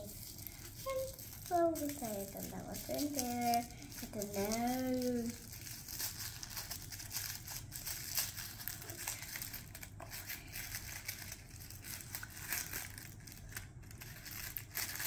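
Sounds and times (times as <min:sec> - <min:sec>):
wrapper crackling: 0:00.0 - 0:15.0.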